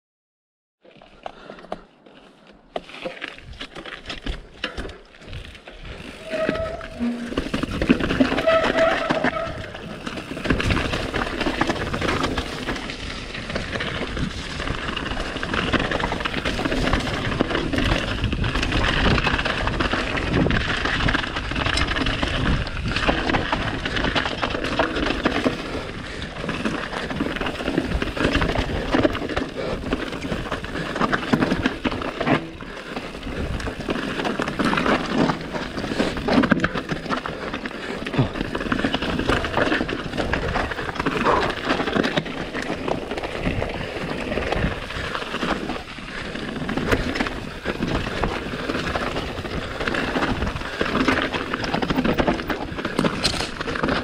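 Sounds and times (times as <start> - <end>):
bike clicks and rattles: 0.8 - 54.0
bike tyres rolling over dirt: 0.8 - 54.0.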